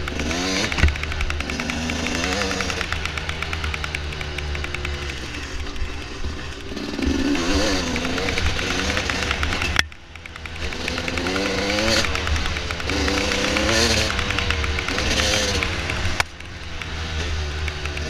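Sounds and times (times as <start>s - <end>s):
sharp click: 0.0s - 6.3s, 7.8s - 18.0s
dirt bike engine revving: 0.0s - 18.0s.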